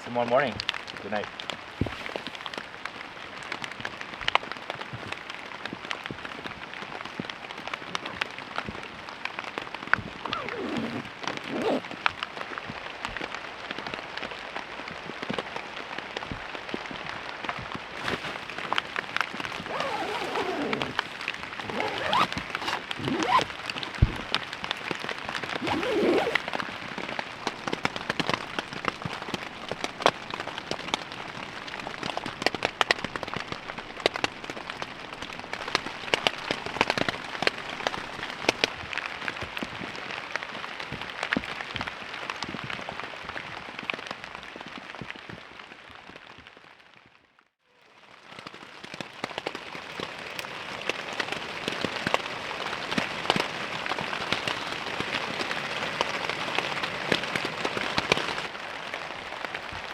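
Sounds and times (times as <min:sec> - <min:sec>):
rain pattering on a tent: 0:00.0 - 0:59.9.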